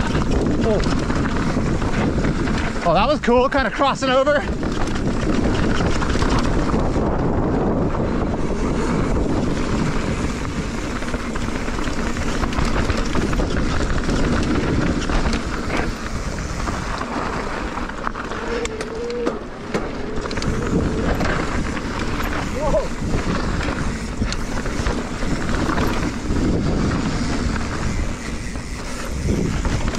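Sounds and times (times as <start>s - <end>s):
bike rattling: 0.0s - 29.9s
bike tyres crunching on gravel: 0.0s - 29.9s
wind rushing over microphone: 0.0s - 29.9s.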